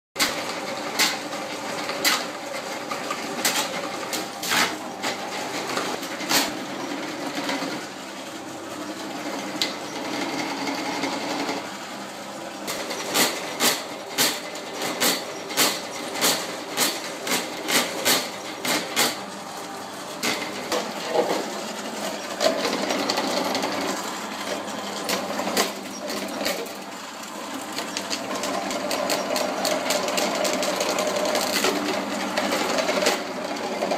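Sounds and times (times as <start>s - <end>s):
drain-cleaning machine running: 0.2s - 33.9s.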